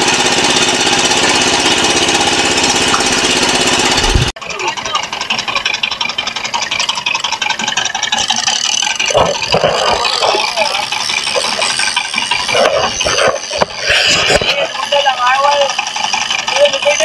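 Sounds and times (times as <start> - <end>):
boat engine rattling: 0.0 - 17.0.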